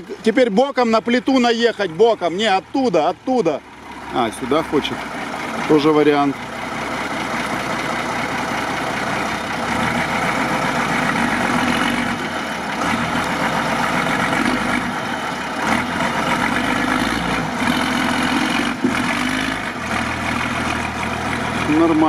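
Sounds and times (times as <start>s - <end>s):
diesel engine running at low revs: 0.0s - 22.0s.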